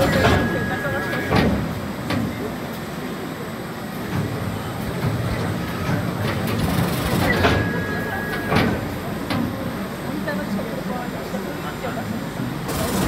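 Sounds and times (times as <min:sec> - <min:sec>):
conveyor machinery hum: 0:00.0 - 0:13.0.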